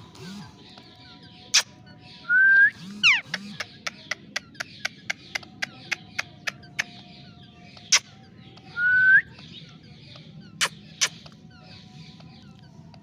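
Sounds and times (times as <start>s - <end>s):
faint background chirping: 0.0s - 13.0s
parakeets calling: 0.0s - 13.0s.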